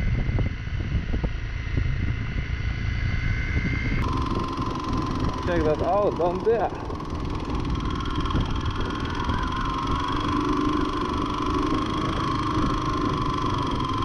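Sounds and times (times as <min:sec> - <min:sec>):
motorcycle engine running: 0:00.0 - 0:14.0
wind and road noise rumble: 0:00.0 - 0:14.0.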